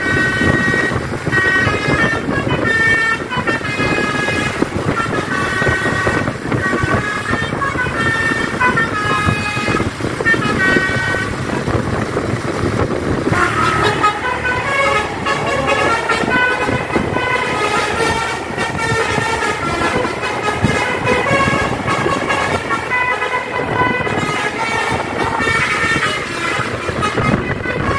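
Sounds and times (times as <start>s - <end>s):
bus horn playing a tune: 0.0s - 27.9s
road and engine noise: 0.0s - 27.9s.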